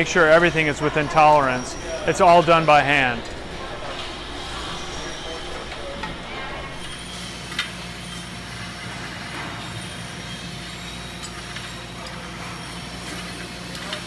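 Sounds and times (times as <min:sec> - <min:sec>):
factory machinery hum: 0:00.0 - 0:14.0.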